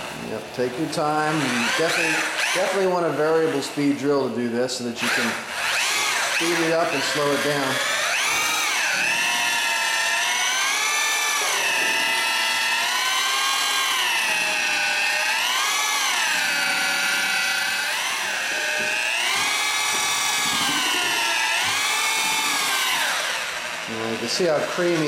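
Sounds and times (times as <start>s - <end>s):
electric drill motor whine: 1.3s - 3.7s, 5.0s - 25.0s.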